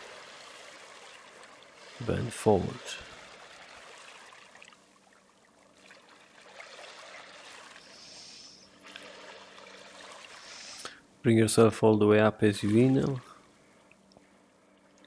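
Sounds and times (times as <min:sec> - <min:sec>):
faint running water: 0:00.0 - 0:15.0
low steady hum: 0:00.0 - 0:15.0.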